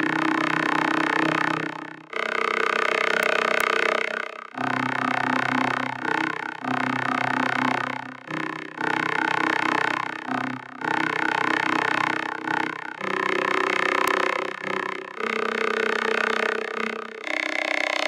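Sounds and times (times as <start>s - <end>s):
synthesized drone chords: 0.0s - 18.0s.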